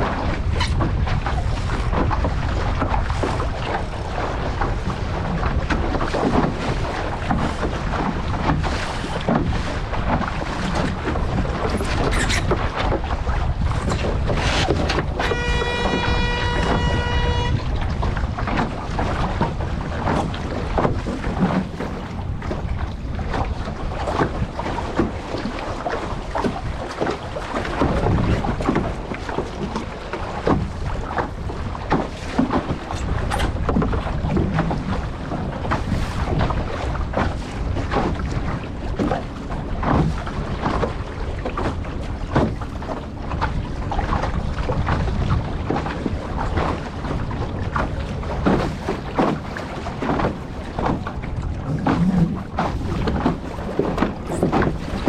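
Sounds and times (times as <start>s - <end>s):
water splashing and rushing: 0.0s - 55.0s
wind rushing over microphone: 0.0s - 55.0s.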